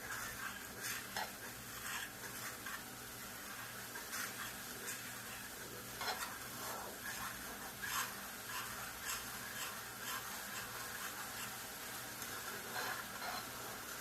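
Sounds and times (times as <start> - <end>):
spoon scraping around a pot: 0.0 - 13.8
faint steady sizzle: 0.0 - 14.0.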